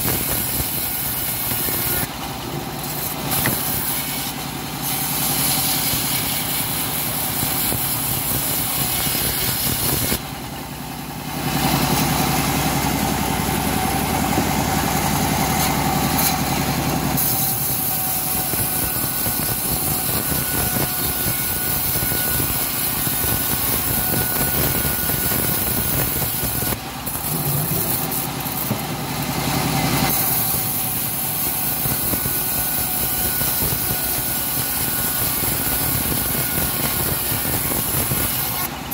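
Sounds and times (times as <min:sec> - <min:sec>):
bandsaw cutting wood: 0:00.0 - 0:38.9.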